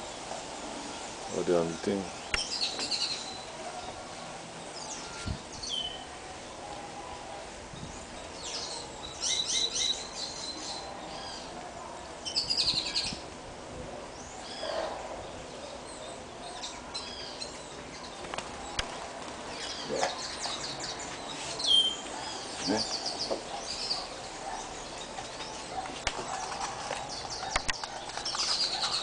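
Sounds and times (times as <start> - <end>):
small birds chirping: 0.0 - 13.4, 14.0 - 29.0.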